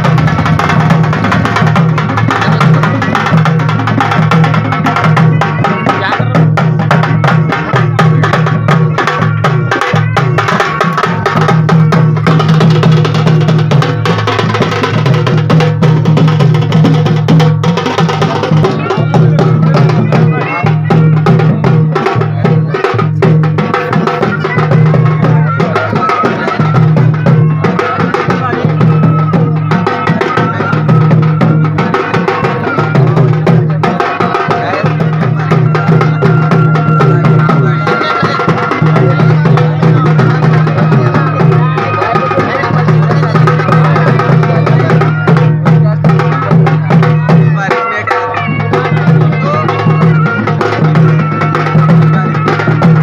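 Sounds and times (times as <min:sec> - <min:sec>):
fast loud drumming: 0:00.0 - 0:53.0.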